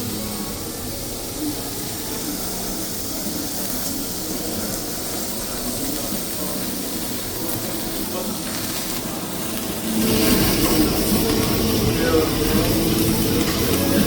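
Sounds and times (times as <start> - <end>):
pork belly sizzling on grill: 0.0 - 14.0.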